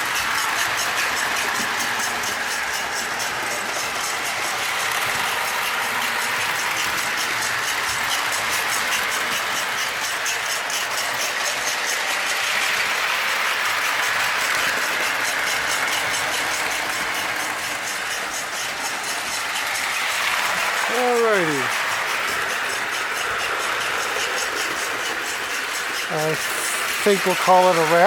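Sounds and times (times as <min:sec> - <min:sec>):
toy train motor and wheel whir: 0:00.0 - 0:28.0.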